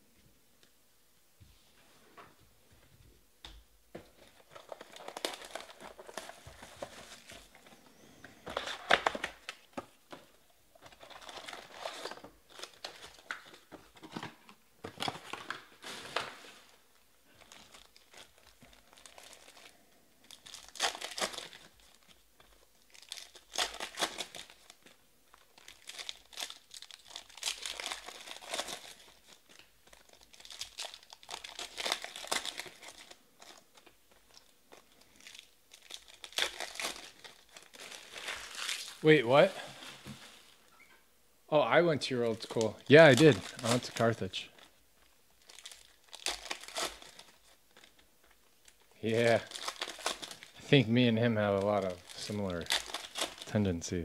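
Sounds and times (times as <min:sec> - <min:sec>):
foil wrappers tearing and crinkling: 0:04.2 - 0:09.8, 0:10.7 - 0:14.3, 0:14.9 - 0:40.6, 0:42.3 - 0:44.8, 0:45.4 - 0:50.8, 0:51.5 - 0:53.5.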